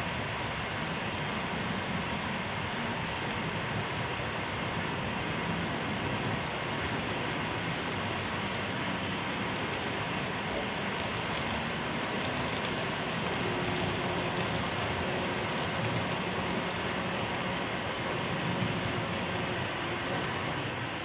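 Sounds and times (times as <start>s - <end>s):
model train wheels rumbling on rail: 0.0s - 21.0s.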